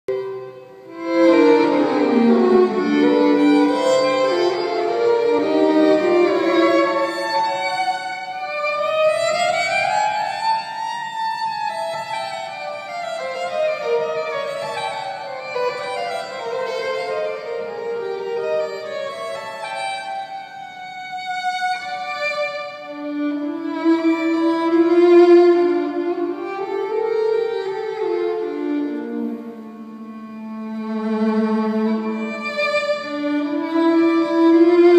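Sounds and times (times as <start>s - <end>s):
violin bowed notes: 0.1s - 34.9s.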